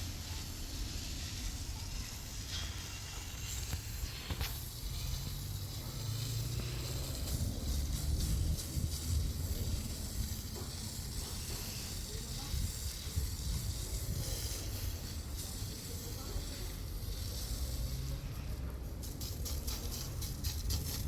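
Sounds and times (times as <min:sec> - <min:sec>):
steady hissing: 0:00.0 - 0:21.0.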